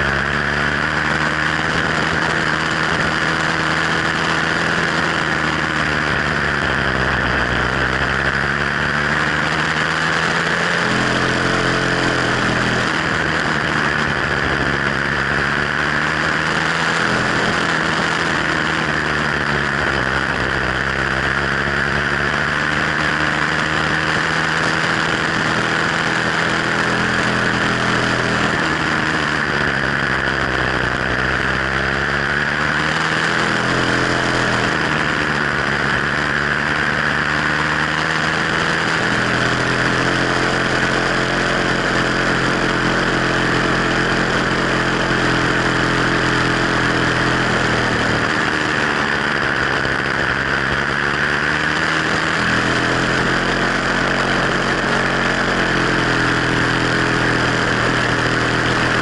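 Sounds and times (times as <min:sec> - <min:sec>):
two-stroke bicycle engine running: 0:00.0 - 0:59.0.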